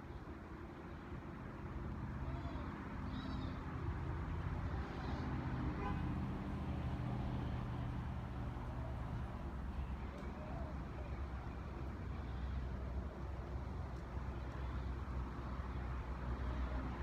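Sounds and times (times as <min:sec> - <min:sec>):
idling vehicle engines: 0:00.0 - 0:17.0
road traffic: 0:00.0 - 0:17.0.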